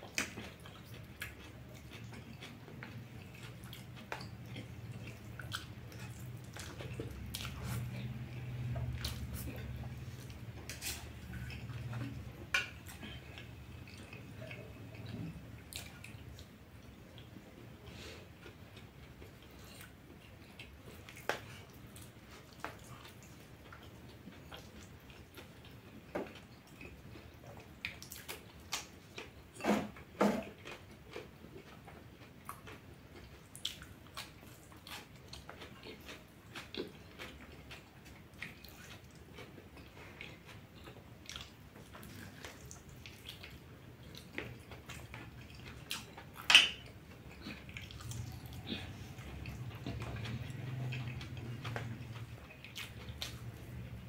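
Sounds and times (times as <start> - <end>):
person chewing with wet mouth sounds: 0.0 - 54.0.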